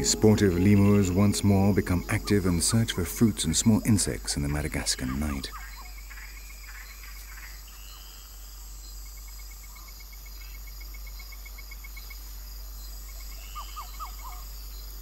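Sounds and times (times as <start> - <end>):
insects trilling: 0.0 - 15.0
rapid pulsed insect chirp: 0.0 - 15.0.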